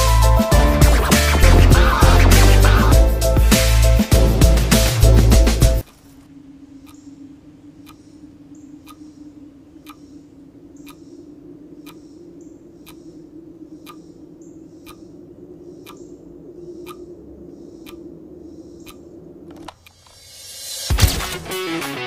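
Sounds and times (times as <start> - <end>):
sharp ticks: 0.0 - 6.2, 6.8 - 22.0.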